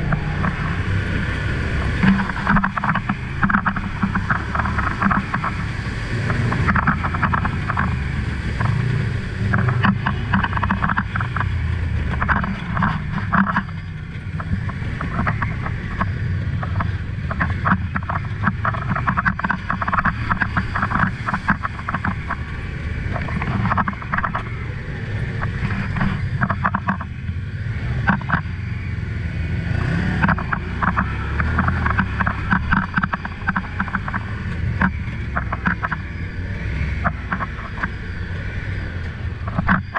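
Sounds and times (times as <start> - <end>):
vehicle engine running: 0.0 - 39.9
water splashing: 0.0 - 39.9.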